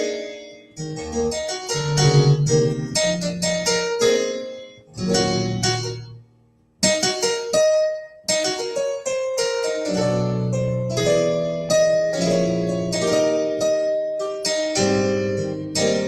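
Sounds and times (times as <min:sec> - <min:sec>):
digital piano notes and chords: 0:00.0 - 0:16.0
piano bass line: 0:00.0 - 0:16.0.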